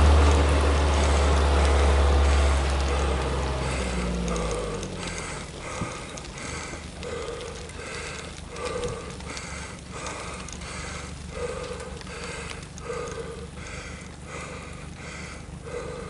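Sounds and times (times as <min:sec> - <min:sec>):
cyclist breathing hard: 0:00.0 - 0:16.0
road and wind noise: 0:00.0 - 0:16.0.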